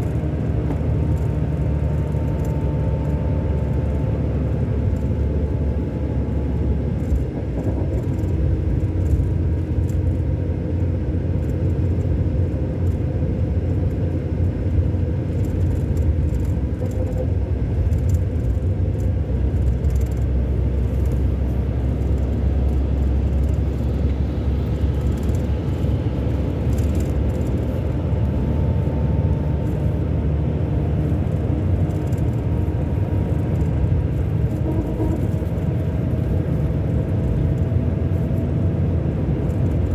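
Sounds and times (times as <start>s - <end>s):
bus engine droning: 0.0s - 39.9s
road rumble: 0.0s - 39.9s.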